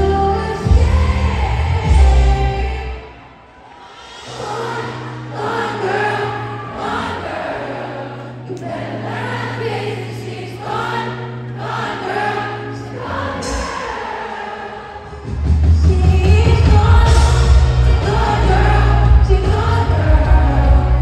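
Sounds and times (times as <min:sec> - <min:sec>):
person singing: 0:00.0 - 0:21.0.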